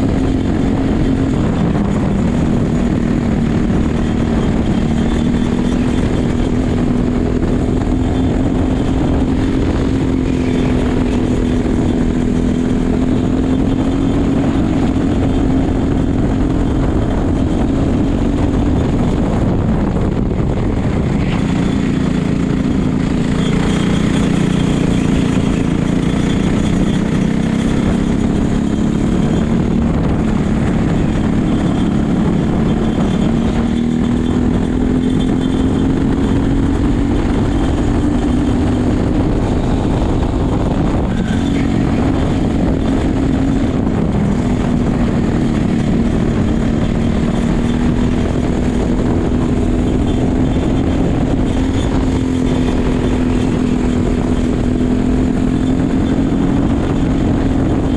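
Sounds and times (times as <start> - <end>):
kart engine at high revs: 0.0 - 57.9.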